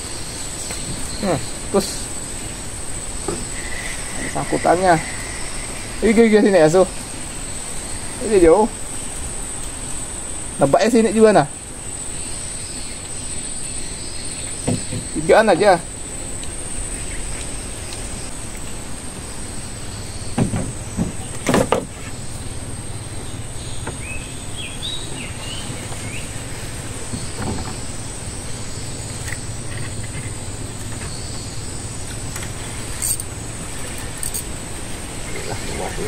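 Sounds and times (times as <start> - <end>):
high-pitched insect drone: 0.0 - 36.0
low continuous hum: 0.0 - 36.0.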